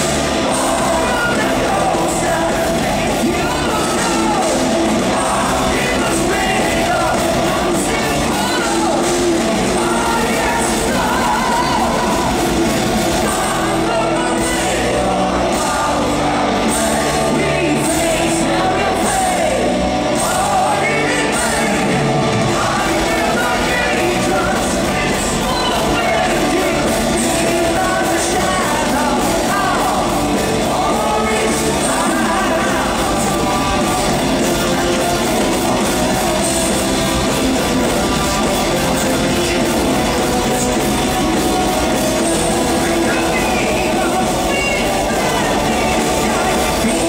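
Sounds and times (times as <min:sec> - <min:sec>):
metal band playing live: 0:00.0 - 0:47.0
person singing: 0:00.0 - 0:47.0.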